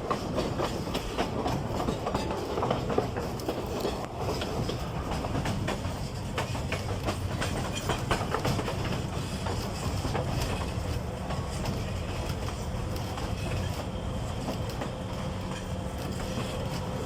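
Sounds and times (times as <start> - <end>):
diesel locomotive engine drone: 0.0 - 17.0
train wheels clicking and rattling: 0.0 - 17.0.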